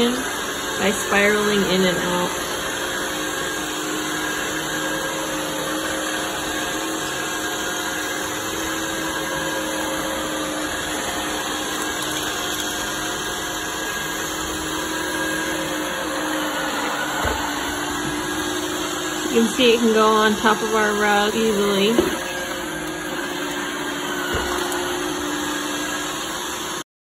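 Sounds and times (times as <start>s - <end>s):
robot vacuum whirring: 0.0s - 26.8s.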